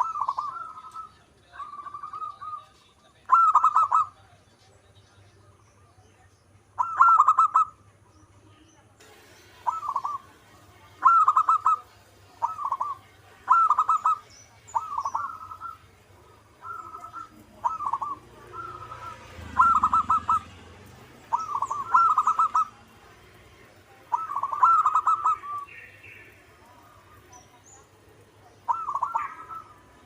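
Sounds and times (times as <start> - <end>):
dove cooing: 0.0 - 4.2, 6.8 - 7.8, 9.6 - 30.0.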